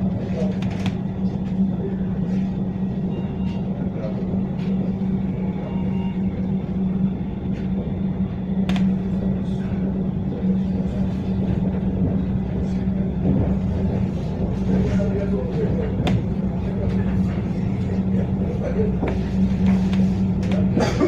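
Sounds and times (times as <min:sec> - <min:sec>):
tram rumble and hum: 0:00.0 - 0:21.0.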